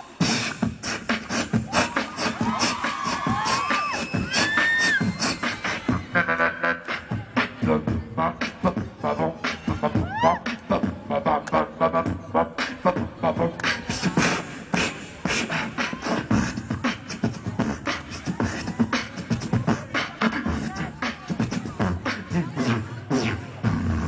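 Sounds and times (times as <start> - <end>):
beatboxing through microphone: 0.0 - 24.0.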